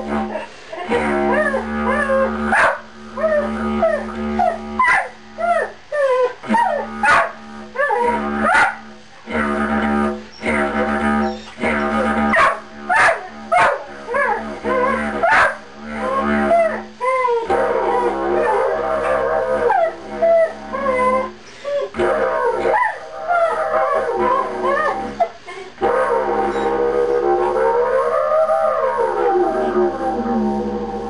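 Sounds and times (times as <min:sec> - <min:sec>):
didgeridoo low drone: 0:00.0 - 0:31.0
dog howling: 0:00.9 - 0:08.8, 0:10.4 - 0:31.0.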